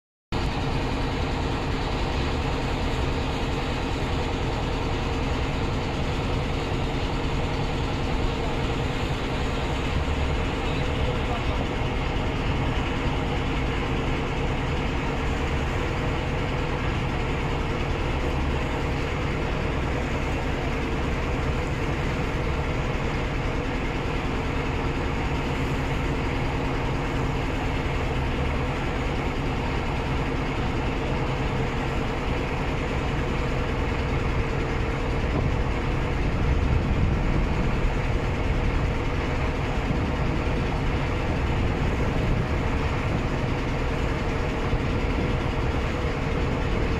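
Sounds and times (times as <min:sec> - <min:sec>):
boat engine drone: 0:00.4 - 0:46.9
water rushing along hull: 0:00.4 - 0:46.9.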